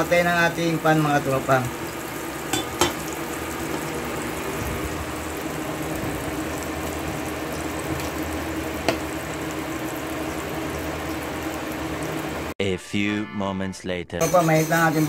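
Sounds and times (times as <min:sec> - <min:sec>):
butter and oil sizzling in a pan: 0:00.0 - 0:12.6.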